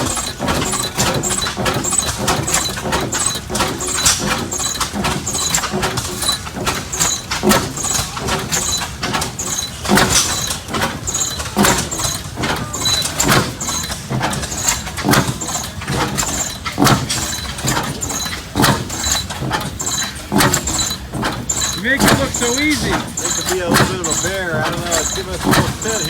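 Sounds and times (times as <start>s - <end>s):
machinery clatter: 0.0s - 26.0s
stationary engine exhaust beats: 0.0s - 26.0s.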